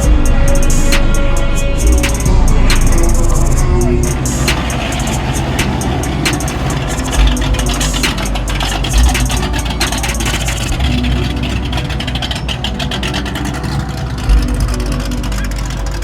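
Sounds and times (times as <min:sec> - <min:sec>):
car engine running: 0:00.0 - 0:16.0
deep low rumble with thumps: 0:00.0 - 0:16.0.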